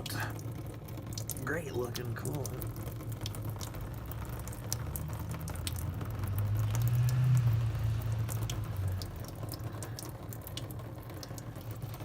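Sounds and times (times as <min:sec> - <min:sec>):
coolant dripping and pattering: 0:00.0 - 0:12.0.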